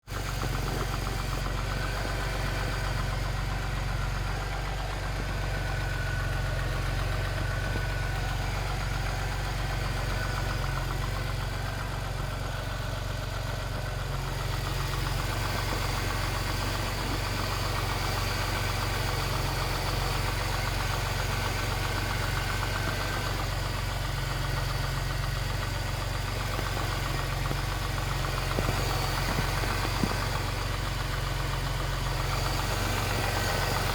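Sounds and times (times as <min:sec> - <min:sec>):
car engine idling with rattle: 0:00.0 - 0:33.9.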